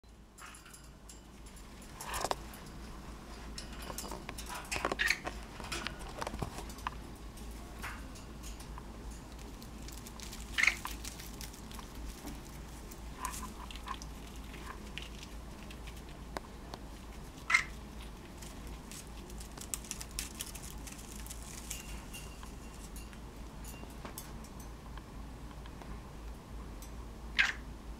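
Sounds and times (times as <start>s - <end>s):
beaks and claws tapping cage: 0.4s - 27.6s.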